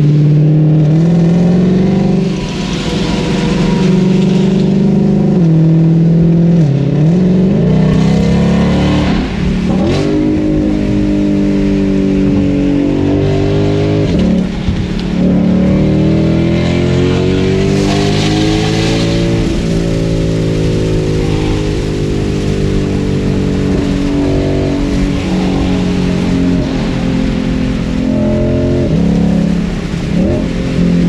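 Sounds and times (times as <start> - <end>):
car engine with loud exhaust: 0.0 - 31.0.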